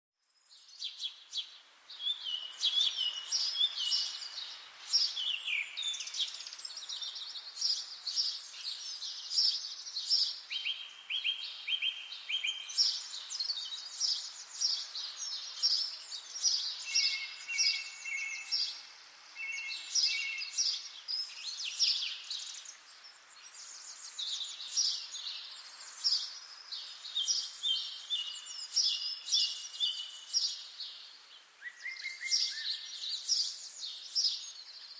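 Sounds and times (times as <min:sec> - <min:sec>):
faint background noise: 0:00.2 - 0:34.9
songbirds chirping and trilling: 0:00.2 - 0:34.9.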